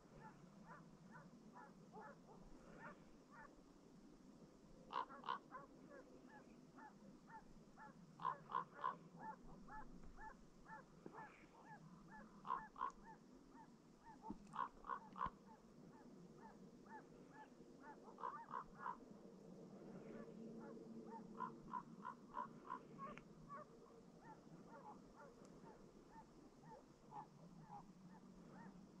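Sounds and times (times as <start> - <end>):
faint hound baying: 0.1 - 3.5, 4.9 - 19.0, 20.1 - 28.8.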